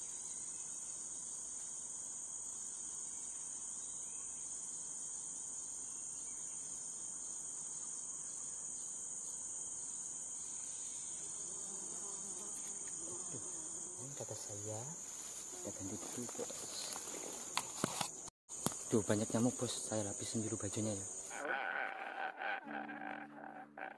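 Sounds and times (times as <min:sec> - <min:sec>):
forest insects droning: 0:00.0 - 0:23.9.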